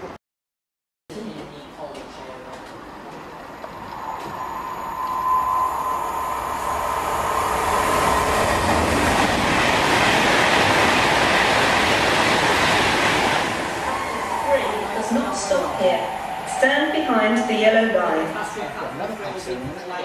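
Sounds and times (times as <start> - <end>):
train wheels on rail: 1.3 - 19.9.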